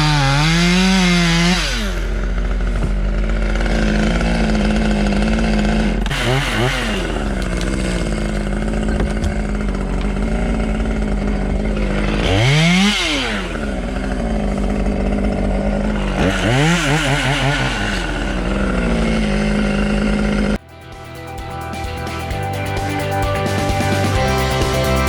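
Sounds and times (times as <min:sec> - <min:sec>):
chainsaw idling and revving: 0:00.0 - 0:25.0.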